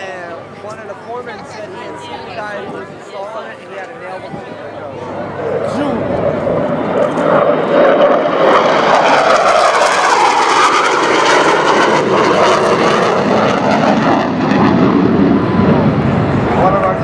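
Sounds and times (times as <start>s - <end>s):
jet flying past: 0.0s - 17.0s.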